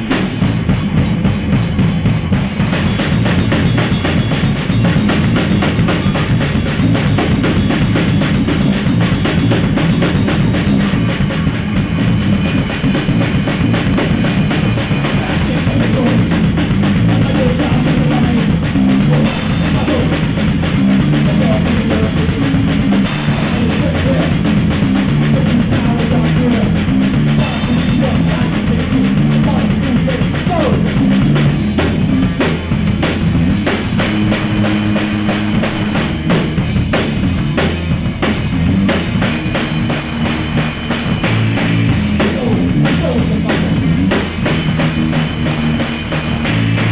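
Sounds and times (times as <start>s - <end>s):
metal band playing: 0.0s - 46.9s
rapid bass drum and snare: 0.0s - 46.9s.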